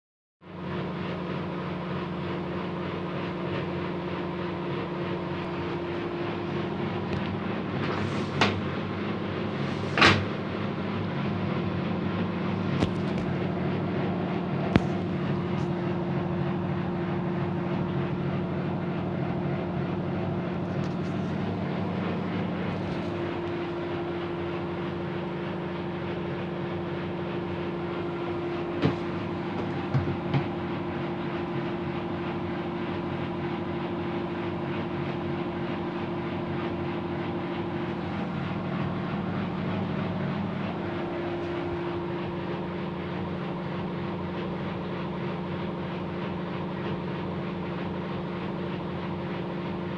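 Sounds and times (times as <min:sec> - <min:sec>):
washing machine spinning: 0:00.4 - 0:49.9.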